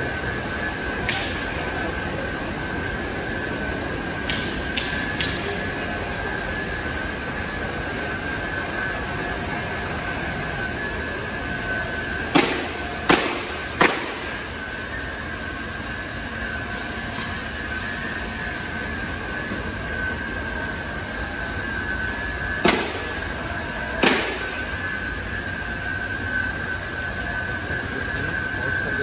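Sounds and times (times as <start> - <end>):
machinery running with high whine: 0.0 - 29.0.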